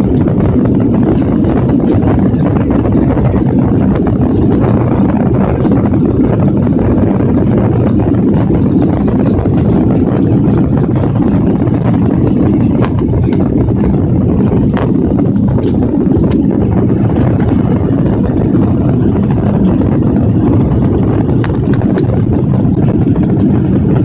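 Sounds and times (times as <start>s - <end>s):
airliner engines rumbling in cabin: 0.0s - 24.0s.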